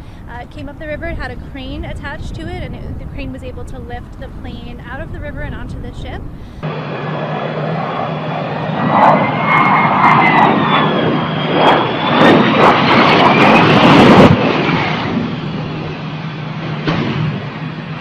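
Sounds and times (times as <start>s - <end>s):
jet engines roaring with whine: 0.0s - 18.0s.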